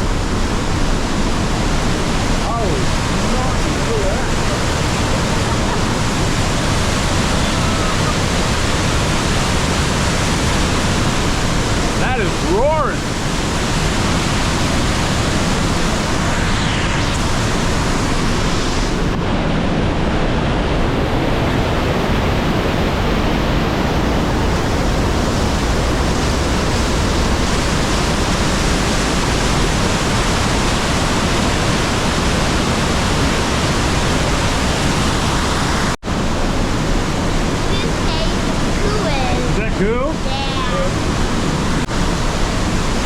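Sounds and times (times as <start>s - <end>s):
waterfall roaring: 0.0s - 43.0s.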